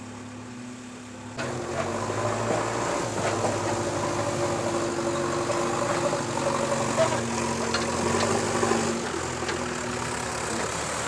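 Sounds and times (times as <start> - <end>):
diesel engine running: 1.4 - 11.0.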